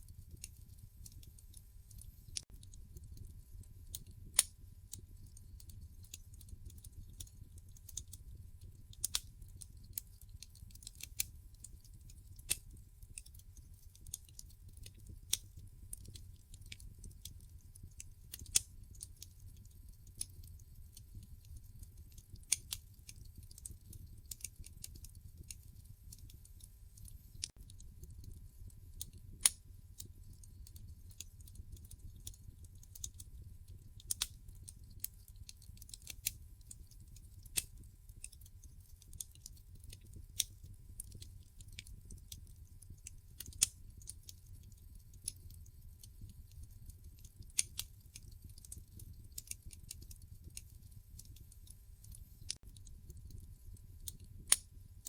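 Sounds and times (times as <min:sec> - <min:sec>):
wood fire crackling: 0:00.0 - 0:54.8.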